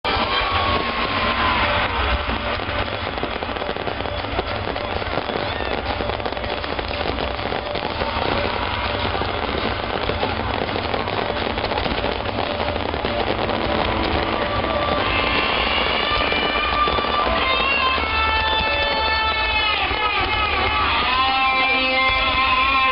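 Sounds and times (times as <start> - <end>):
fireworks crackling and popping: 0.0 - 22.9
whistling fireworks: 0.0 - 22.9.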